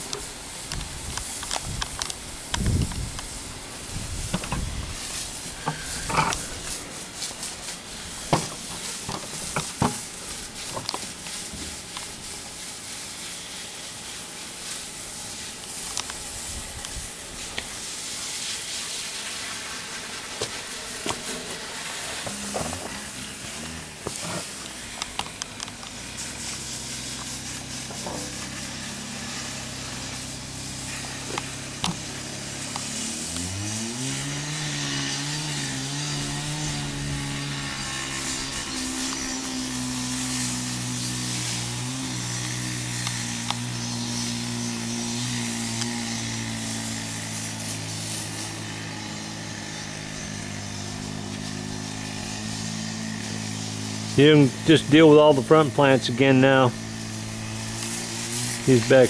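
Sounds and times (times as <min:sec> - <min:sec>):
engine hum: 0:00.0 - 0:18.1, 0:19.1 - 0:59.0
hose spray hissing on roof: 0:00.0 - 0:59.0.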